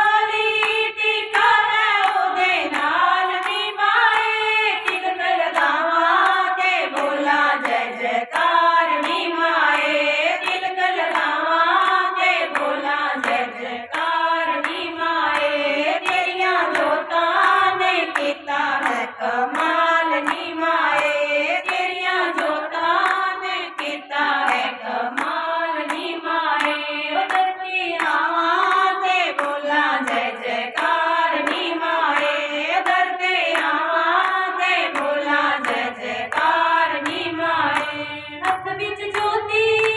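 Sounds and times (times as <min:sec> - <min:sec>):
hand-clapping: 0:00.0 - 0:39.9
women singing together: 0:00.0 - 0:39.9.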